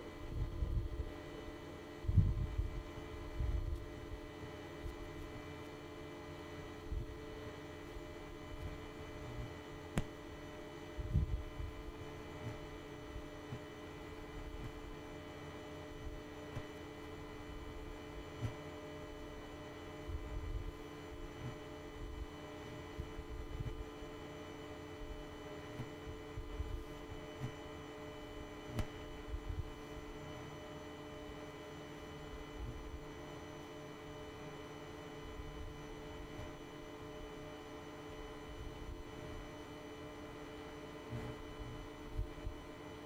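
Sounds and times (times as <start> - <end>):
steady hum of held tones: 0.0 - 43.0.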